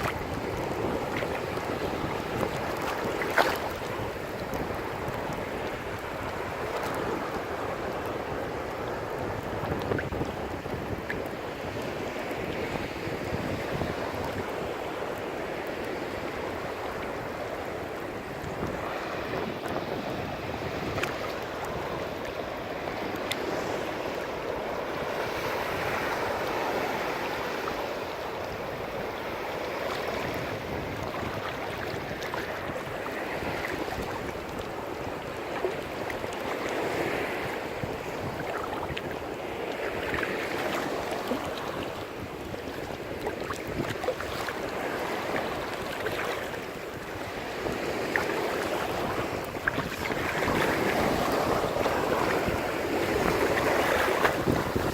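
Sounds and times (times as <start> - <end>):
ocean surf breaking: 0.0 - 54.9
wind on microphone: 0.0 - 54.9.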